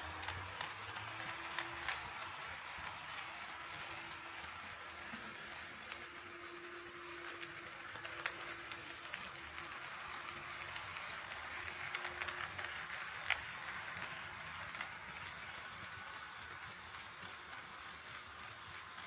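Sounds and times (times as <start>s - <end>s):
wheels clicking over rail joints: 0.0s - 19.0s.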